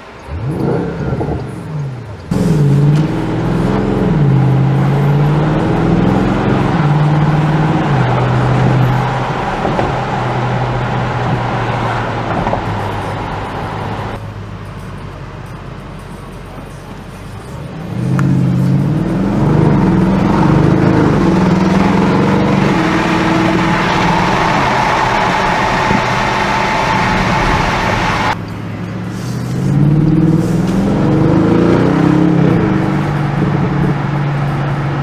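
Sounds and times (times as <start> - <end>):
car engine revving and accelerating: 0.0 - 35.0.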